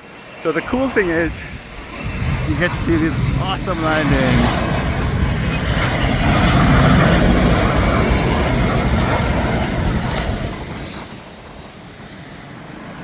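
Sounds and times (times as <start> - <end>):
jet engine noise: 0.0 - 13.0.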